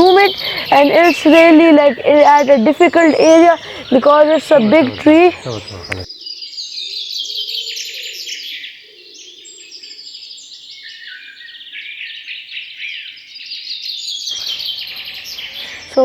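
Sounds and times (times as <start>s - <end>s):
wild birds chirping and calling: 0.0s - 16.0s.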